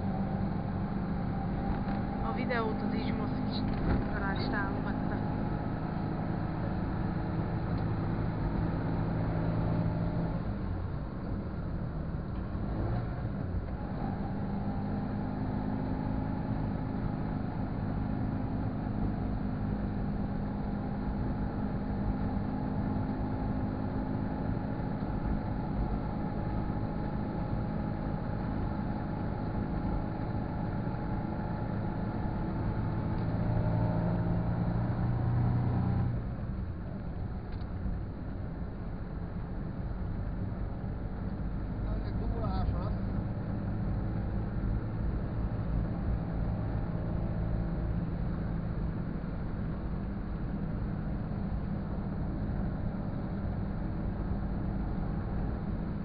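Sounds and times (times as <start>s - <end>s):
car engine: 0.0s - 56.0s
road noise inside car: 0.0s - 56.0s.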